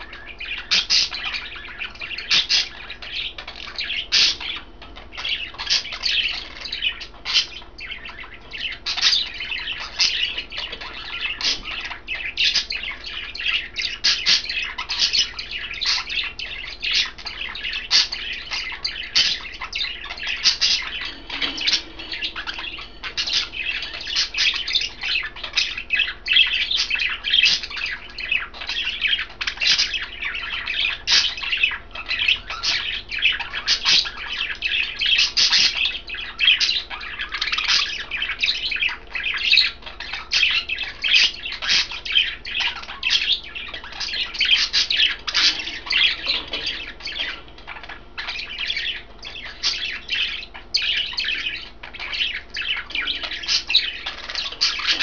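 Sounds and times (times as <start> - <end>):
budgies chirping: 0.0 - 55.0.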